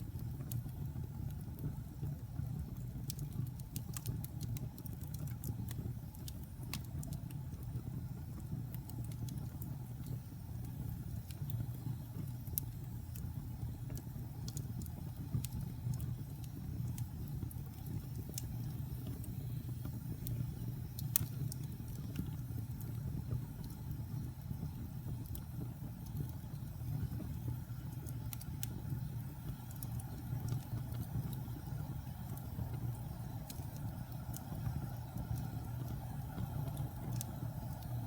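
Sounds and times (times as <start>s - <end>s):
fire crackling and popping: 0.0s - 38.0s
flames roaring: 0.0s - 38.0s.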